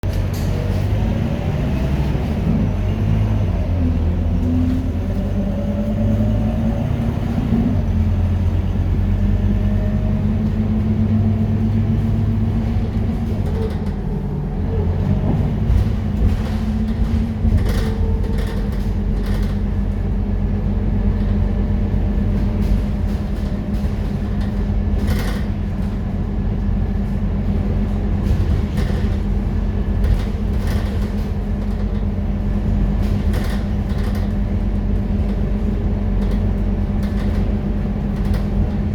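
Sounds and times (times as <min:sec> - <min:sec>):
diesel bus engine running: 0:00.0 - 0:38.9.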